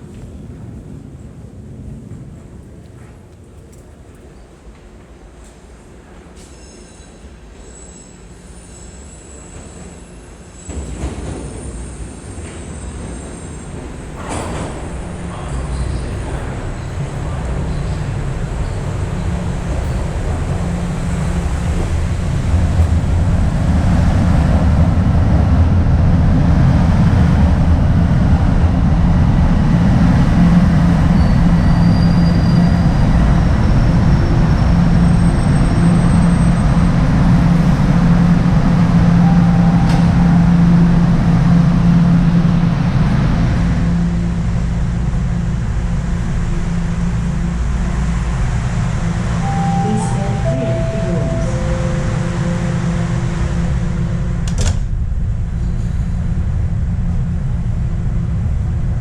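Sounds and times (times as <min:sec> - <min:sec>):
subway train low hum: 0:00.0 - 0:59.0.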